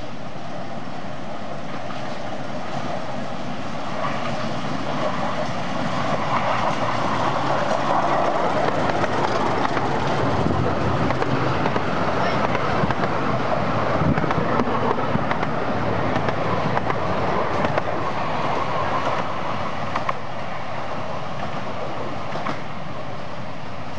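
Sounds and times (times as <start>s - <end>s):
miniature steam locomotive passing: 0.0s - 23.9s.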